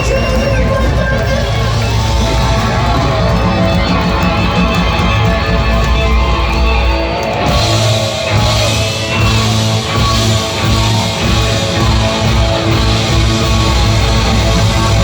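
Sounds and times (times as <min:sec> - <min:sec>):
live hard rock band: 0:00.0 - 0:15.0.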